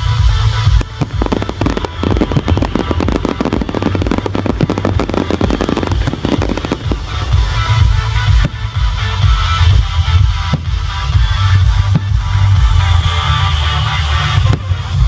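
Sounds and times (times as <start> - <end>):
fireworks crackling: 0.0 - 15.0
low steady rumble: 0.0 - 15.0.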